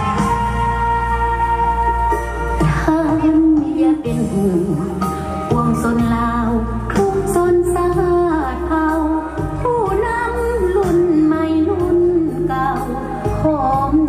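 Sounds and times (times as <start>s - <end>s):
instrumental backing music: 0.0s - 14.0s
woman singing into a microphone: 0.0s - 14.0s.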